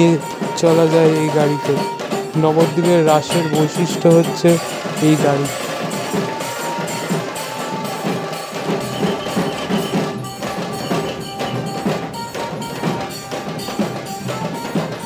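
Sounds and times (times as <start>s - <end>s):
drums in quick rhythm: 0.0s - 15.0s
held tone: 0.0s - 15.0s.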